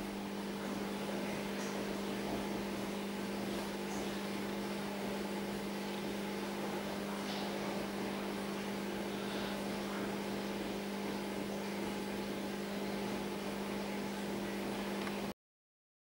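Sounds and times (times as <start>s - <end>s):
steady mechanical hum: 0.0s - 15.4s.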